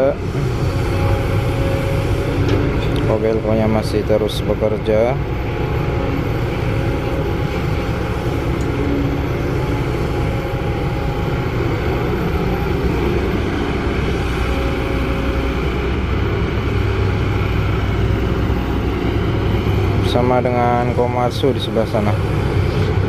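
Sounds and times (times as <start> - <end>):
excavator diesel engine under load: 0.0 - 23.0.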